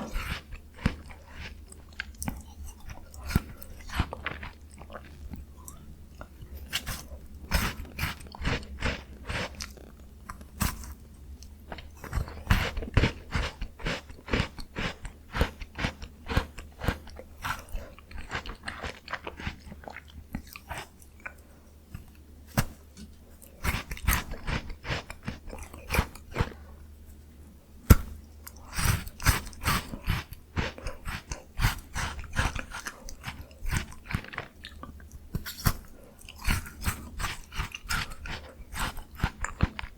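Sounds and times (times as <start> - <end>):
crunchy chewing of ice cream: 0.0 - 39.9.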